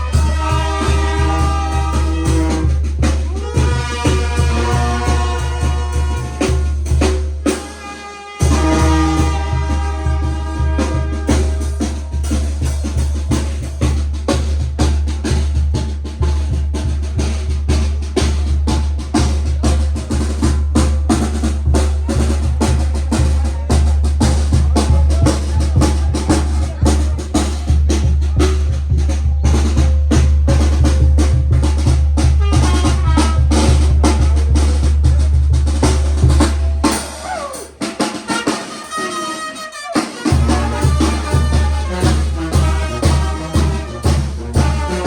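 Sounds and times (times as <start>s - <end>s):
fast bass drum and snare drumming: 0.0s - 45.0s.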